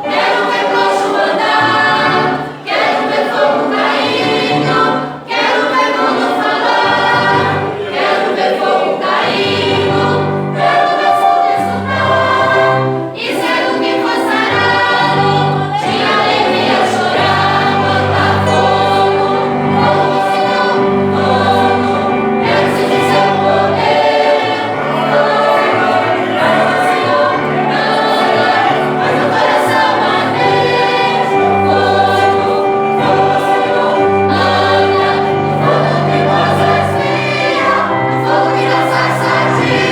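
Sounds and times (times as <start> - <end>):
choir singing a worship song: 0.0 - 39.9.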